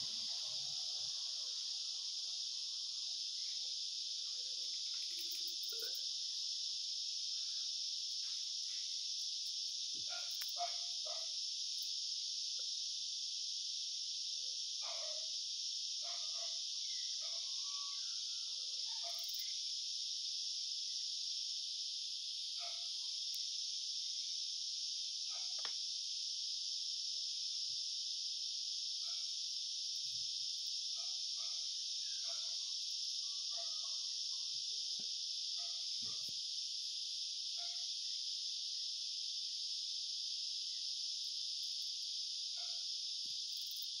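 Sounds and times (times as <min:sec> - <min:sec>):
insect chorus: 0:00.0 - 0:44.0.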